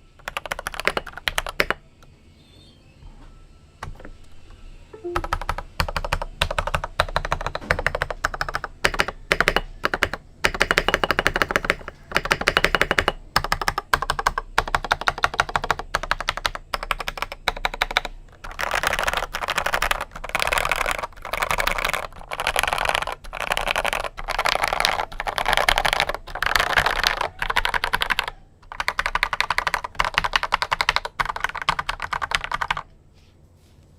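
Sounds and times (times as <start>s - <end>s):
typing on mechanical keyboard: 0.2s - 1.8s, 5.0s - 32.9s.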